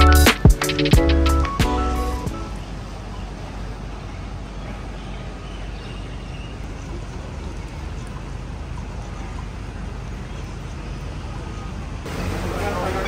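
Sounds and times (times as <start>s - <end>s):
city road traffic hum: 0.0s - 13.0s.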